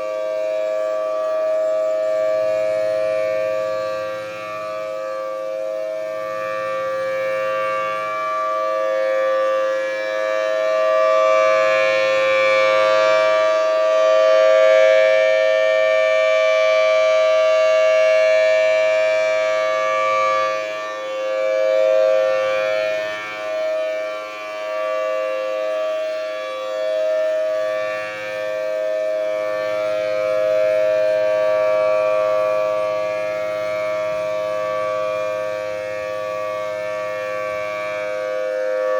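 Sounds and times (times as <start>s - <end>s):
two-note warning siren: 0.0s - 38.9s.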